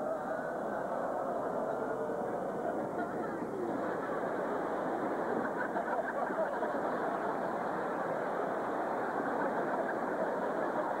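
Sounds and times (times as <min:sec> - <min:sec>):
audience laughing and applauding: 0:00.8 - 0:11.0.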